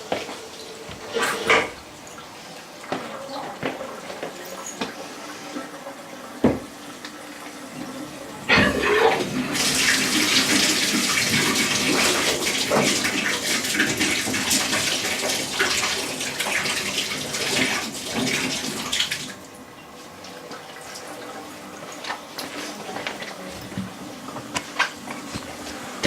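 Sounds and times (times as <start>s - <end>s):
toilet tank refilling: 0.0s - 26.0s.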